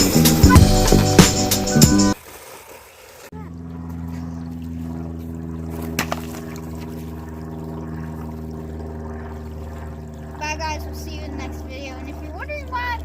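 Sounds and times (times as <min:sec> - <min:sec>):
motor humming: 0:00.0 - 0:02.2, 0:03.4 - 0:13.0.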